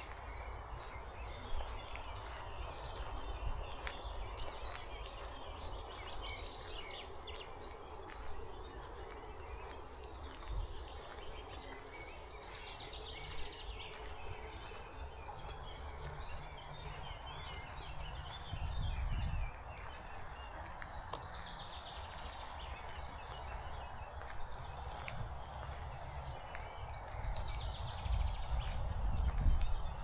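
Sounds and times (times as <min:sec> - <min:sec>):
wind rumbling on microphone: 0:00.0 - 0:30.0.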